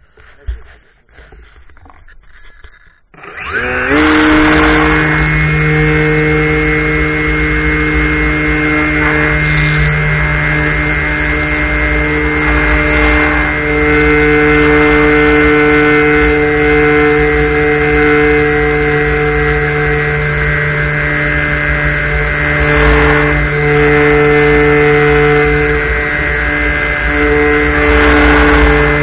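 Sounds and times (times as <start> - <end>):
model airplane motor whine: 2.4 - 29.0.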